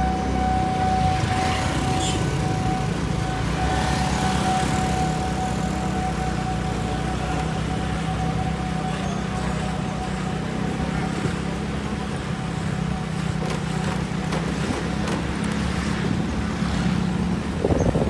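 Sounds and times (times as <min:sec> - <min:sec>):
road noise: 0:00.0 - 0:18.0
traffic engine hum: 0:00.0 - 0:18.0.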